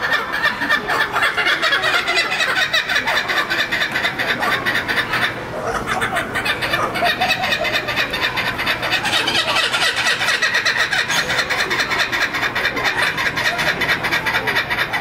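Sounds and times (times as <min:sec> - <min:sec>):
kookaburra laughing call: 0:00.0 - 0:15.0.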